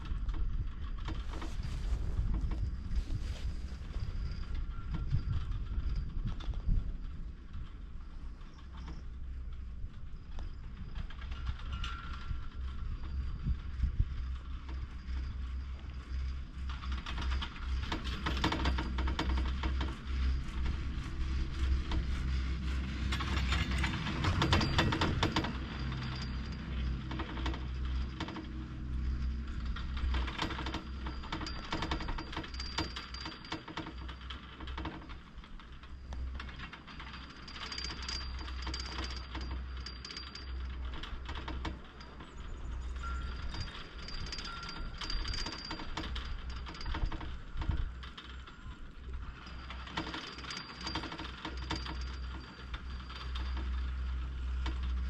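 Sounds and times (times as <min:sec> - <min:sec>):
chairlift rope rattling over sheaves: 0:00.0 - 0:55.0
wind rumble on microphone: 0:00.0 - 0:55.0.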